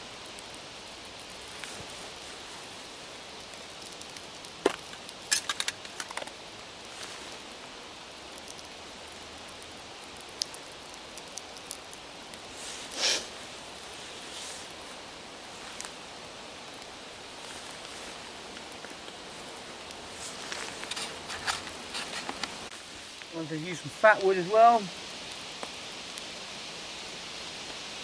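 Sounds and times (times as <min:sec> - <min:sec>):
fire crackling and popping: 0:00.0 - 0:28.0
steady outdoor hiss: 0:00.0 - 0:28.0.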